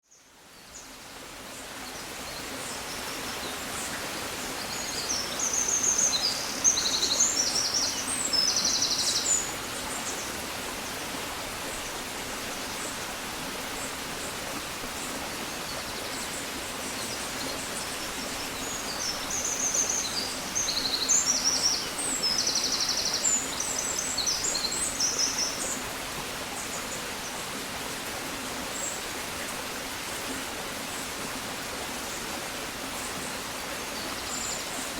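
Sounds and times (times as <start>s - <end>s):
steady outdoor hiss: 0.1s - 34.9s.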